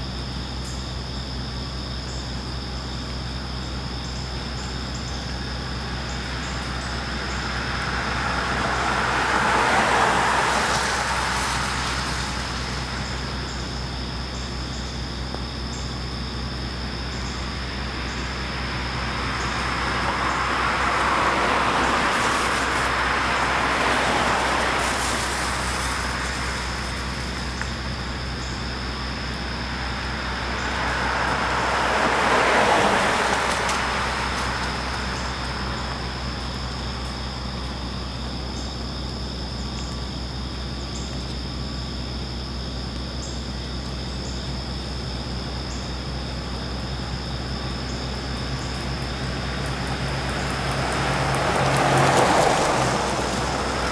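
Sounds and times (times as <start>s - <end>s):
tyre hiss of passing cars: 0.0s - 53.9s
steady background hiss: 0.1s - 53.9s.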